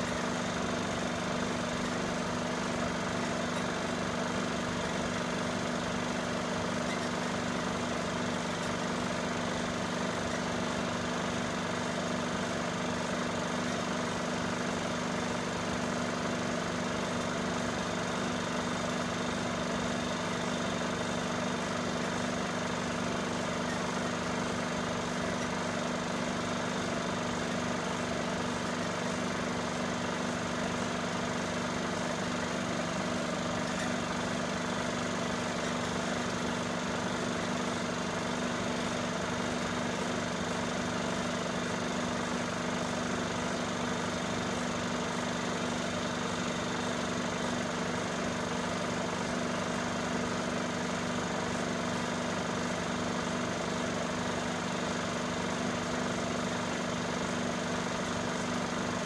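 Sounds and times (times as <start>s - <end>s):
film projector humming: 0.0s - 59.0s.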